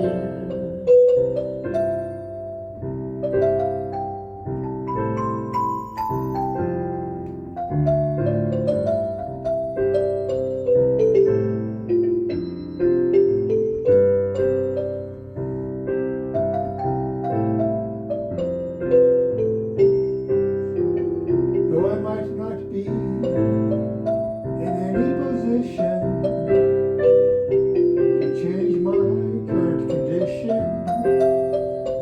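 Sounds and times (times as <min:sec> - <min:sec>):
slow piano ballad: 0:00.0 - 0:32.0.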